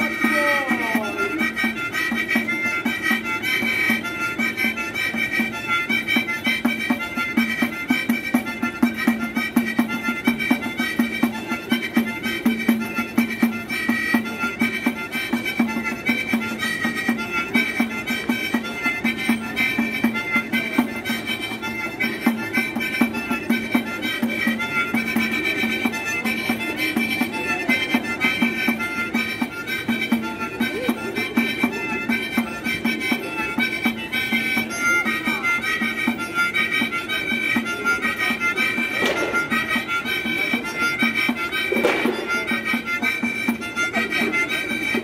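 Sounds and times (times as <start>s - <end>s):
harmonica melody: 0.0s - 45.0s.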